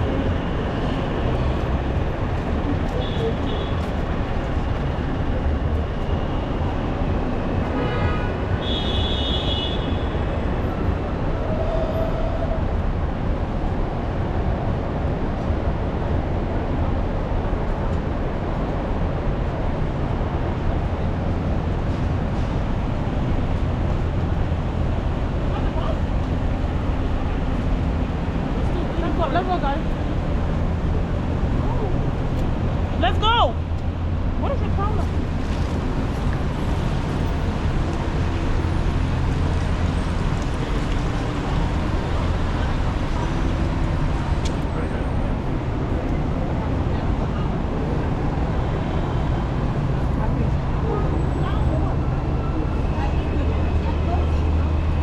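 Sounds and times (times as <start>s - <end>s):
city street traffic rumble: 0.0s - 55.0s.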